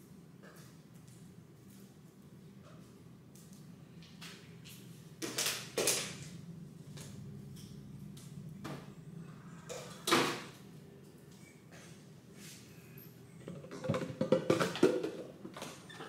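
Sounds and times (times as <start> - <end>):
low steady hum: 0.0 - 15.9.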